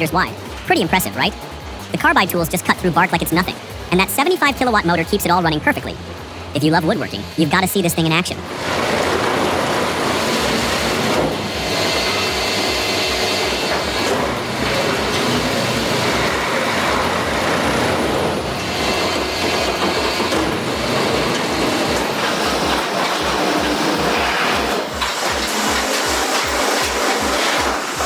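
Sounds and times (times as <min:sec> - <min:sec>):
debarker grinding logs: 0:00.0 - 0:28.0.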